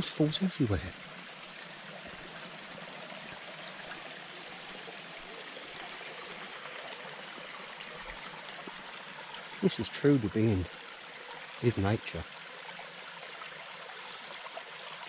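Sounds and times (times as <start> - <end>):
stream trickling and splashing: 0.0 - 15.0.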